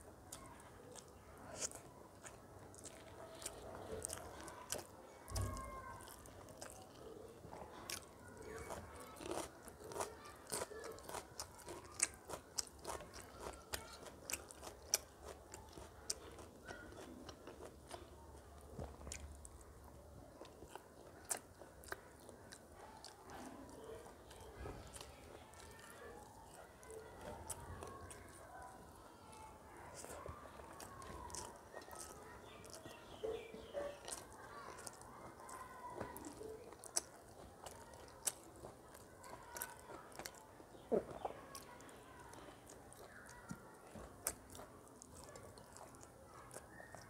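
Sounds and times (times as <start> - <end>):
wet chewing and lip smacks: 0.2 - 47.0.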